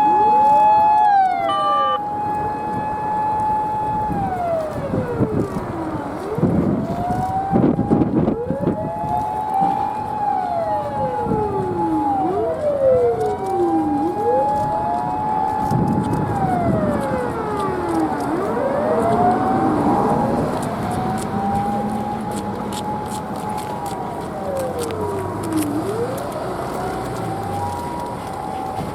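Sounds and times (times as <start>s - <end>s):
truck engines rumbling: 0.0s - 28.9s
wailing sirens: 0.0s - 28.9s.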